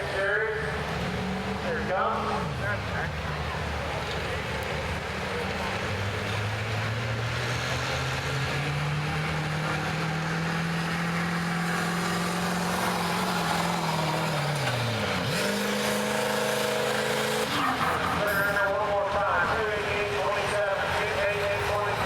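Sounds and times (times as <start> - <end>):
diesel truck engine under load: 0.0 - 22.0.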